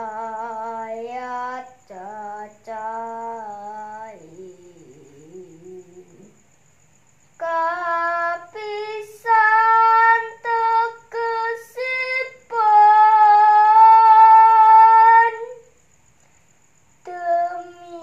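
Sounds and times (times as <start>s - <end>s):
girl singing unaccompanied: 0.0s - 6.6s, 7.2s - 15.8s, 16.9s - 18.0s.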